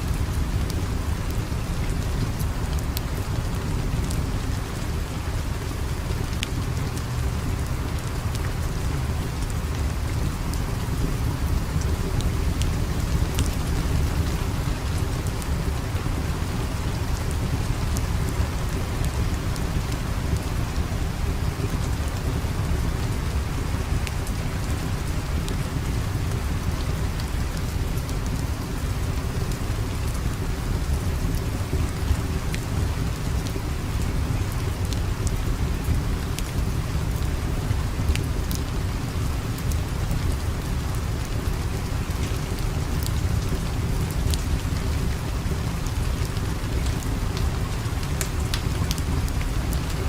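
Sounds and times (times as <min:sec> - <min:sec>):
heavy rain: 0:00.0 - 0:50.0
wood fire crackling: 0:00.0 - 0:50.0.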